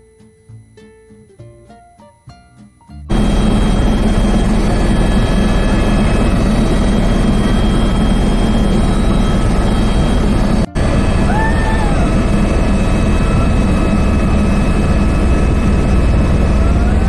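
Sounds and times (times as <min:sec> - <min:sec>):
helicopter engine and rotor noise: 0:03.1 - 0:17.0.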